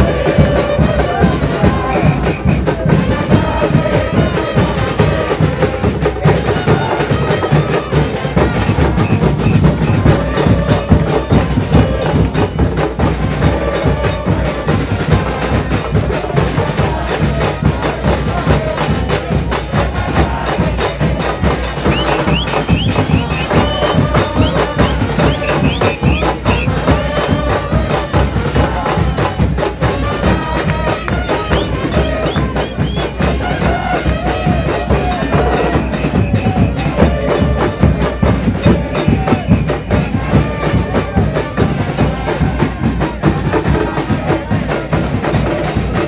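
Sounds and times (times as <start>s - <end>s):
band melody: 0.0s - 46.0s
drums in a fast beat: 0.0s - 46.0s.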